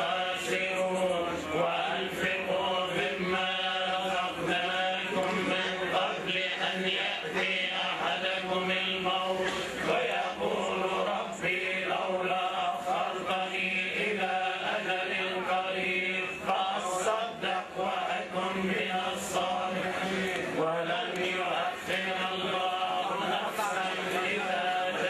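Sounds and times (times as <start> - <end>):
men chanting a prayer: 0.0 - 25.0.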